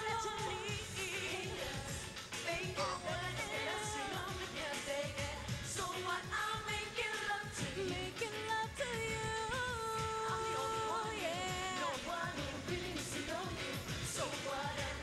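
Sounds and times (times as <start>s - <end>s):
pop song with woman singing: 0.0s - 15.0s.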